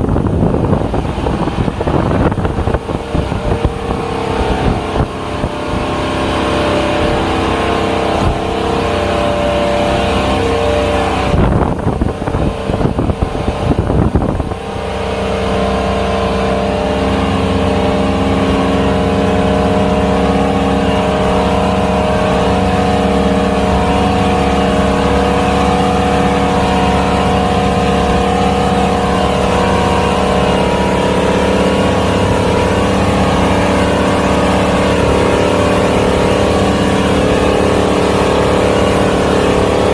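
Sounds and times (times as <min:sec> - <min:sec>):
boat engine running: 0:00.0 - 0:39.9
rough rushing noise: 0:00.0 - 0:39.9.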